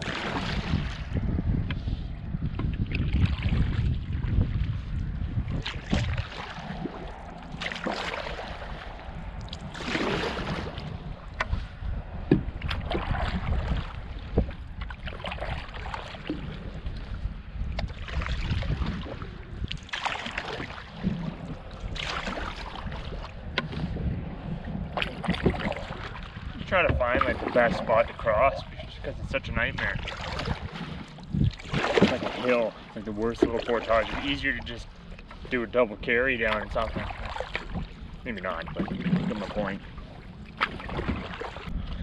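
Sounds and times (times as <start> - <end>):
paddle swishing through water: 0.0 - 42.0
wind rumble on microphone: 0.0 - 42.0.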